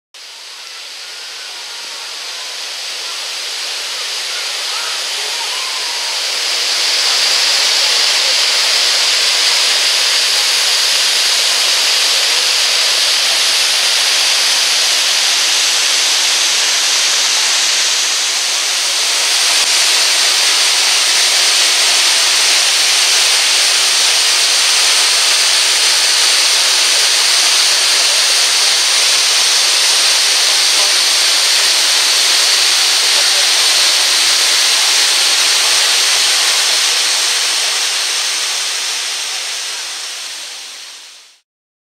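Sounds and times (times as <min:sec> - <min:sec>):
waterfall rushing: 0:00.2 - 0:41.4.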